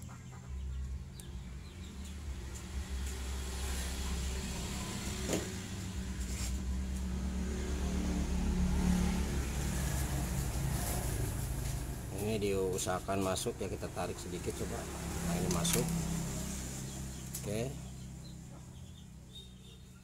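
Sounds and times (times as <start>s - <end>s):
engine running low rumble: 0.0s - 20.0s.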